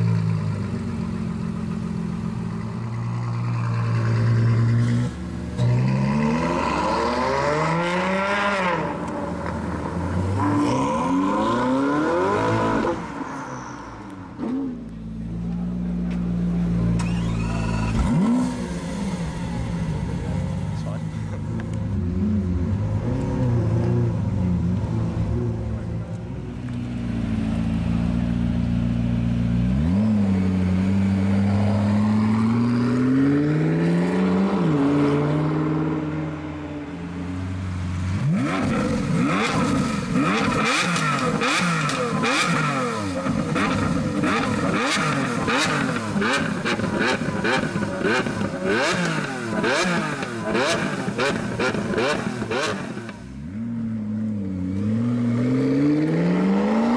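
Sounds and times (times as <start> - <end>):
sports car engine pulling away: 0.0 - 56.9
sports car engine revving: 0.6 - 13.2, 14.4 - 36.3, 37.8 - 56.9.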